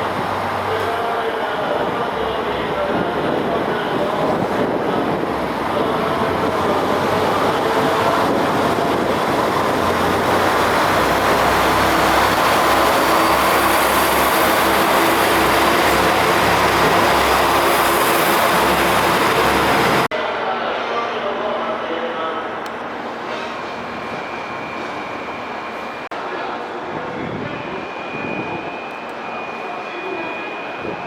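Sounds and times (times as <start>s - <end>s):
diesel railcar engine drone: 0.0s - 20.1s, 22.4s - 31.0s.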